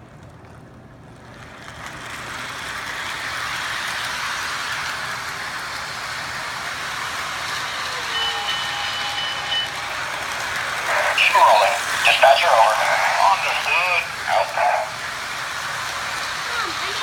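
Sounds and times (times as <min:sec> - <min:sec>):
toy train running on track: 0:01.2 - 0:17.0.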